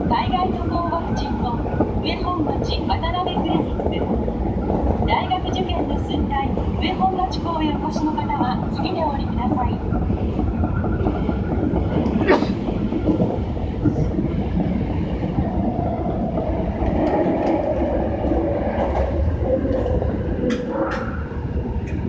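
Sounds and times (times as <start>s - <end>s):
subway train rumble: 0.0s - 22.0s
wheels clicking on rails: 0.0s - 22.0s.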